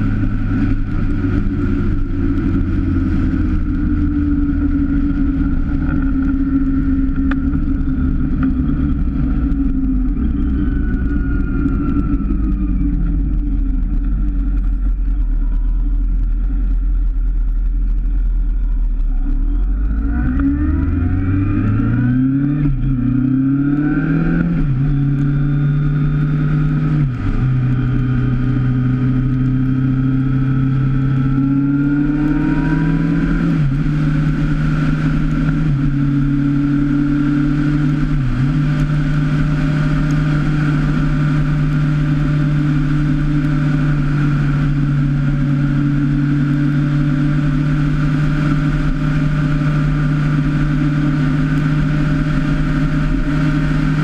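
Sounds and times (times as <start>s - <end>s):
motorcycle engine accelerating: 0.0s - 54.0s
wind and wet road rush: 0.0s - 54.0s.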